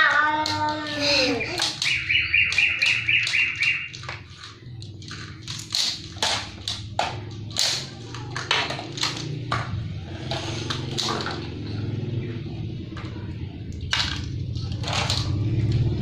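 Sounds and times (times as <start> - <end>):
plastic toys clattering on tiles: 0.0 - 16.0.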